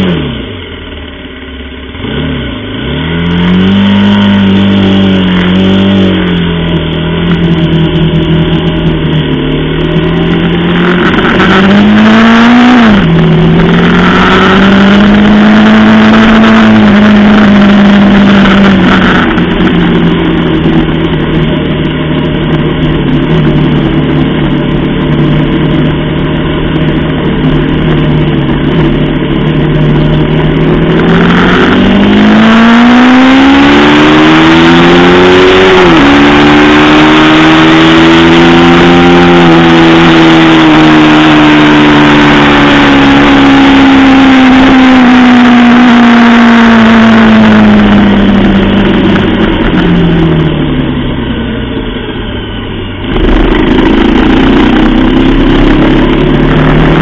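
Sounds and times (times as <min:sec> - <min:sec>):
motorcycle engine accelerating: 0:00.0 - 0:57.0
wind noise on microphone: 0:03.2 - 0:57.0.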